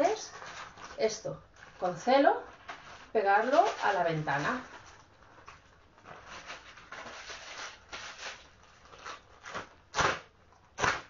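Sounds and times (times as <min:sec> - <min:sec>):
plastic bag crinkling: 0:00.0 - 0:09.9
sharp plastic crackles: 0:00.0 - 0:11.0.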